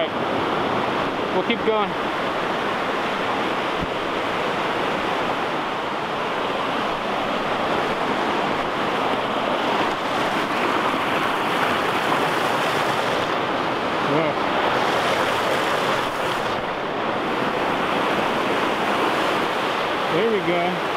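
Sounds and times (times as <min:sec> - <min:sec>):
whitewater rushing over boulders: 0:00.0 - 0:20.9.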